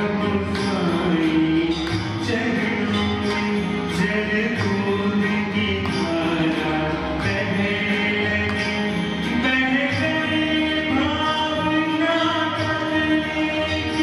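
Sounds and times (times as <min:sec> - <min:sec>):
person singing devotional song: 0:00.0 - 0:14.0.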